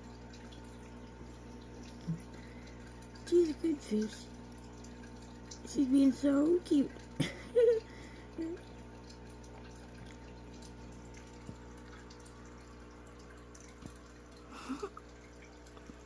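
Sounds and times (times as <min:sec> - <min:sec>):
water trickling and dripping: 0:00.0 - 0:16.0.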